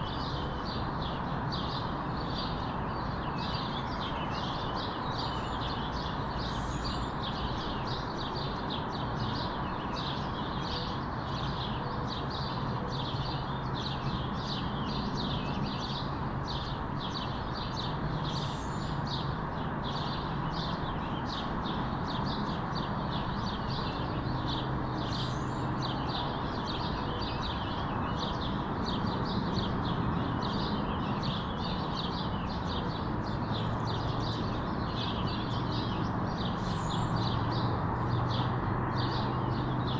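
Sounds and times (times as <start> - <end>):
distant traffic hum: 0.0 - 39.9
small birds chirping: 0.0 - 39.9.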